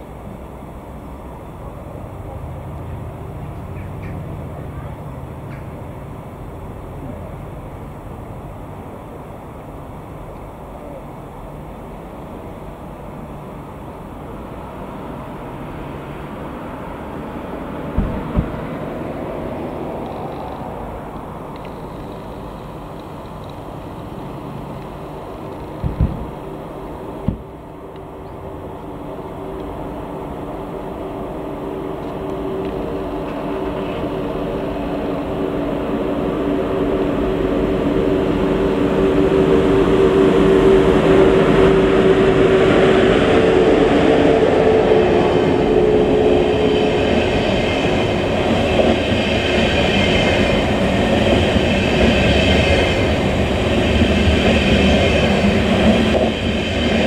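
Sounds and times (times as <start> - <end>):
rattle of train wheels: 0.0 - 7.2, 17.4 - 57.0
low train hum: 0.0 - 57.0
train rumbling past: 0.0 - 57.0.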